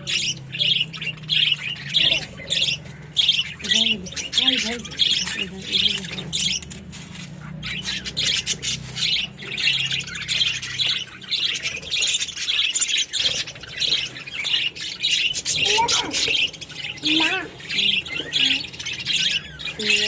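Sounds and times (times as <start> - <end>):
budgerigars chirping and squawking: 0.0 - 20.0.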